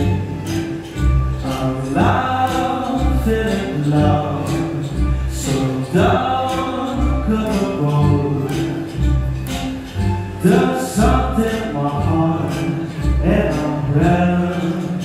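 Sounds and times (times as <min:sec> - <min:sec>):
cello playing: 0:00.0 - 0:15.0.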